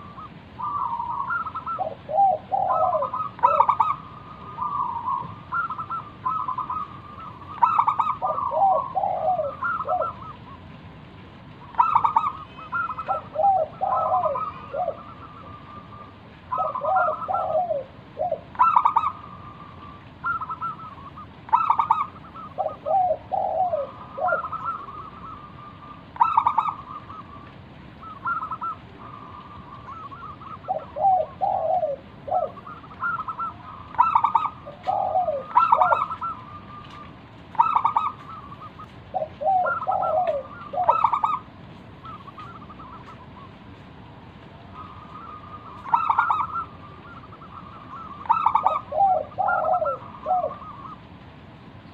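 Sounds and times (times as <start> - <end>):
dove cooing: 0.0 - 43.8, 44.5 - 51.2.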